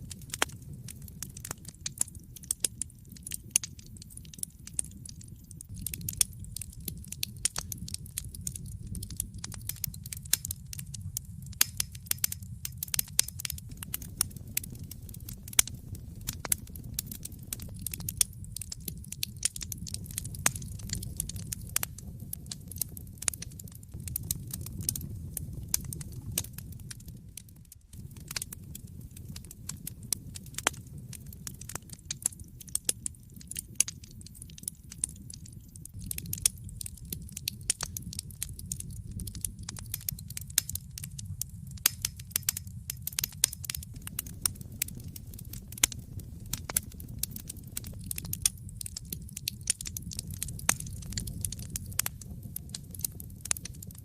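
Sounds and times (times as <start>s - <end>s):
wood fire popping: 0.0s - 54.0s.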